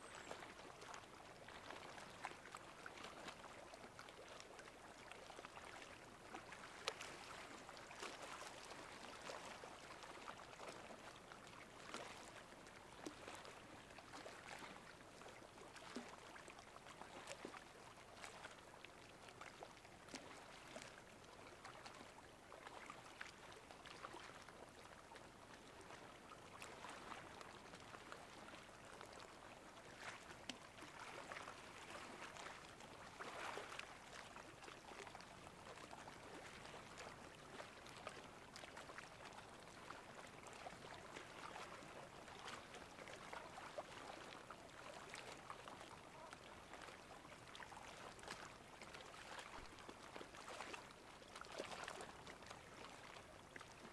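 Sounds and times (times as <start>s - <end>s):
small waves lapping: 0.0s - 53.9s.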